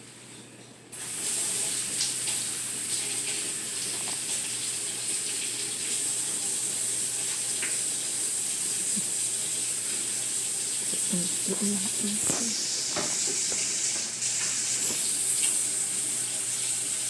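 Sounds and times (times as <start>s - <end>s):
water running into sink: 0.9s - 17.0s.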